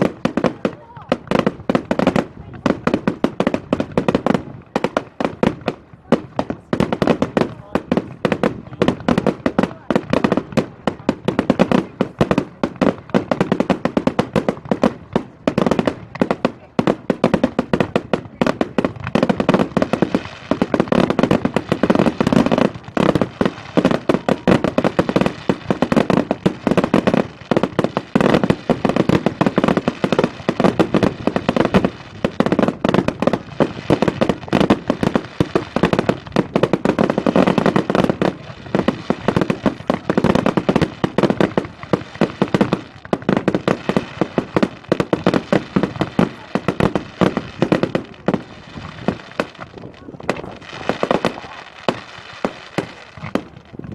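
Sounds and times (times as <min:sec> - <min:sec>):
fireworks bangs and cracks: 0:00.0 - 0:53.9.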